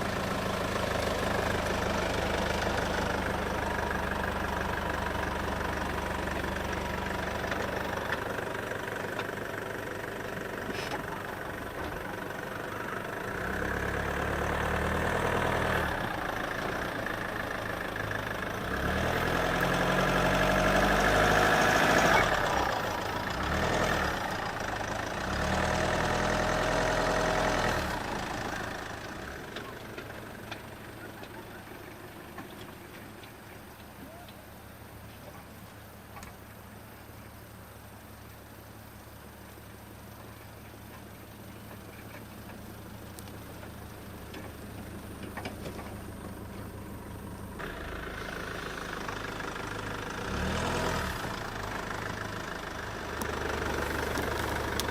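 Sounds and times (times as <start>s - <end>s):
vehicle engine revving: 0.0s - 31.8s, 41.8s - 54.9s.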